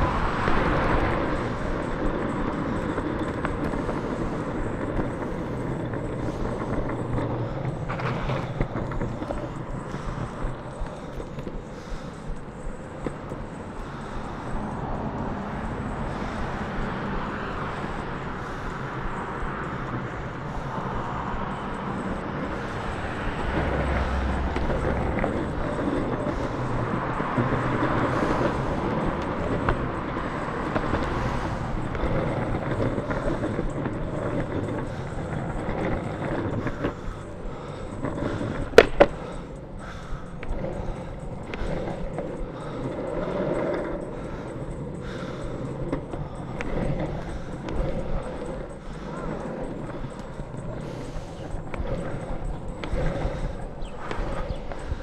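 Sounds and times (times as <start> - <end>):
longboard wheels rolling on pavement: 0.0 - 55.0.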